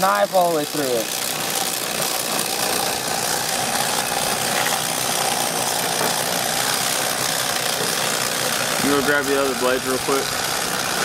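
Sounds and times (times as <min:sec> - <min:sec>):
electric knife humming: 0:00.0 - 0:11.0.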